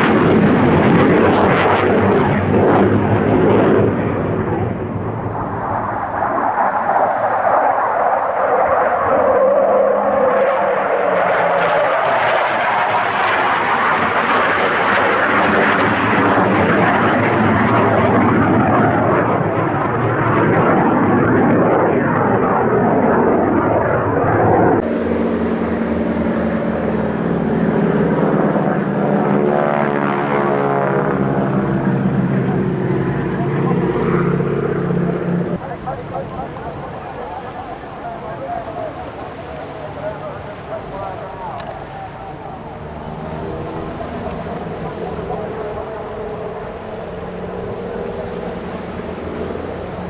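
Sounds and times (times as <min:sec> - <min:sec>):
aircraft engine roar: 0:00.0 - 0:50.0
low aircraft engine hum: 0:00.0 - 0:50.0.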